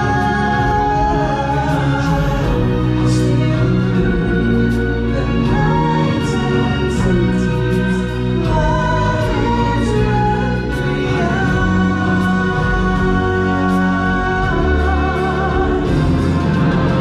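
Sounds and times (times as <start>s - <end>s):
group of voices singing: 0.0s - 17.0s
instrumental backing: 0.0s - 17.0s.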